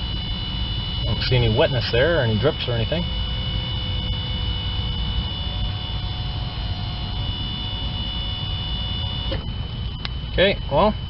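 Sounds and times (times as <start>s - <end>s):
electric fuel pump humming and whining: 0.0s - 11.0s.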